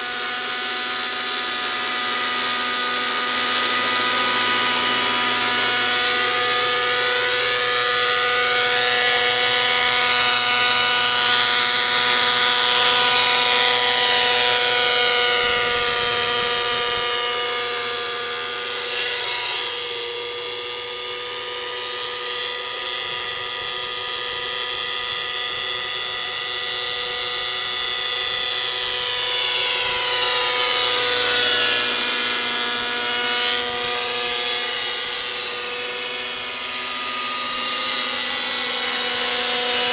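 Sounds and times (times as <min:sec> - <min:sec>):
rc helicopter engine and rotors: 0:00.0 - 0:39.9.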